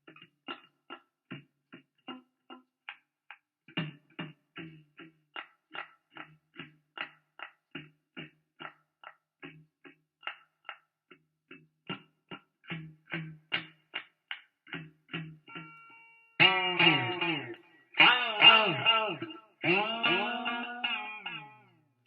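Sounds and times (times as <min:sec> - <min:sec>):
electric guitar staccato notes: 0:03.7 - 0:21.9.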